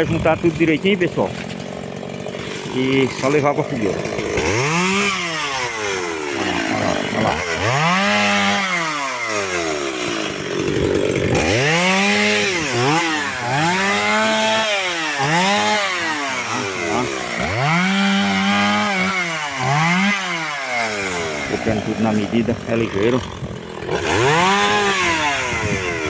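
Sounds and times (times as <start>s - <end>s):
chainsaw revving while cutting: 0.0s - 26.0s.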